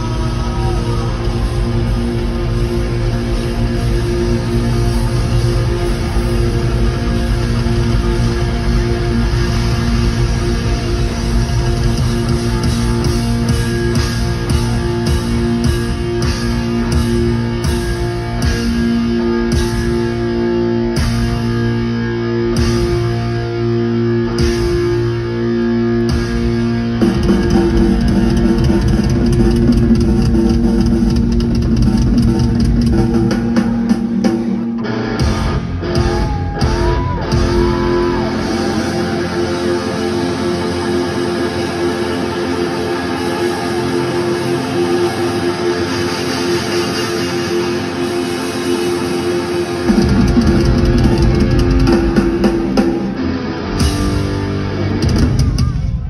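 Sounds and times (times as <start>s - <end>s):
drum kit: 0.0s - 23.6s, 26.0s - 40.9s, 42.7s - 56.0s
bass guitar: 0.0s - 56.0s
electric guitar: 0.0s - 56.0s.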